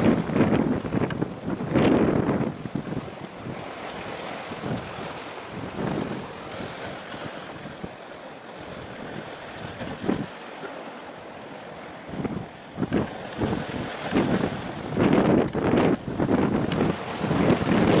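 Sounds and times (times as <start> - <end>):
wind buffeting microphone: 0.0 - 10.4, 11.2 - 18.0
sea waves: 0.0 - 18.0.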